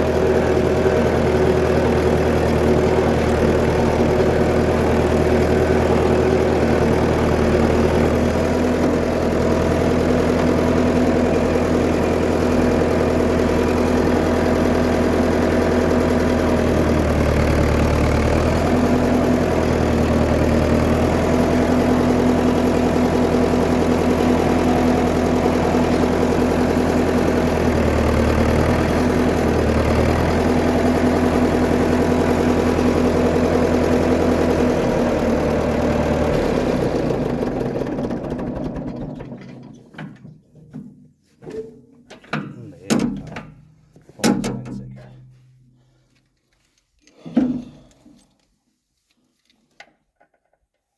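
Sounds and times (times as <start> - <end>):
tractor engine idling: 0.0 - 40.4, 42.4 - 45.6.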